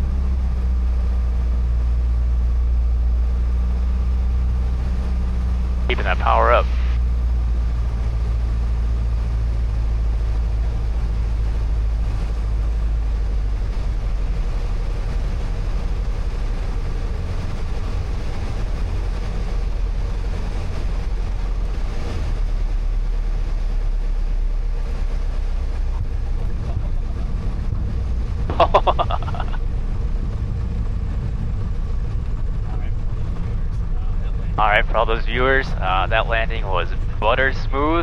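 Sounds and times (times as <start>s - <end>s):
propeller plane engine droning: 0.0s - 38.0s.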